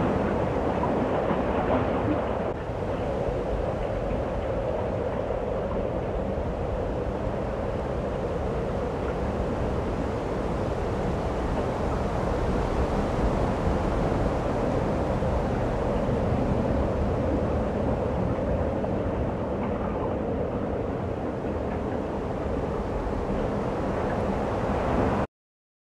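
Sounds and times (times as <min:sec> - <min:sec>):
steady rushing rumble: 0:00.0 - 0:25.3.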